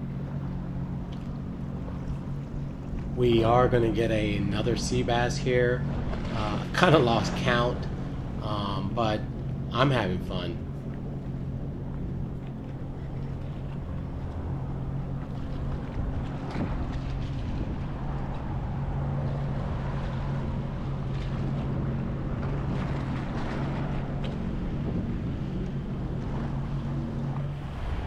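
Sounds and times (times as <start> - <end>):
jet ski engine idling: 0.0 - 28.0
wind buffeting microphone: 0.0 - 28.0.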